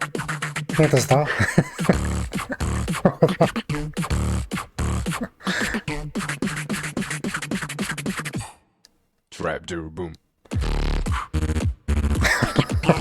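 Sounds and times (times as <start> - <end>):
beatboxing: 0.0 - 8.6, 10.5 - 13.0.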